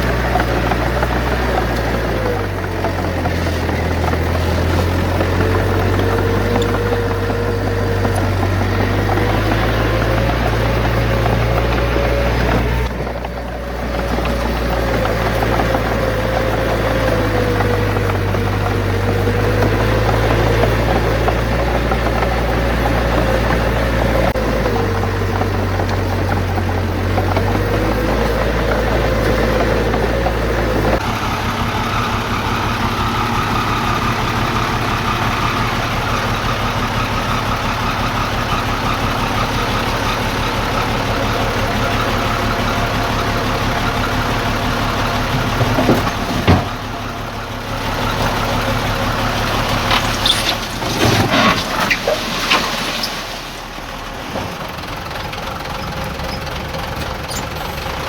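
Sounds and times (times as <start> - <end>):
diesel engines running: 0.0 - 58.0
engine with high whine: 0.0 - 58.0.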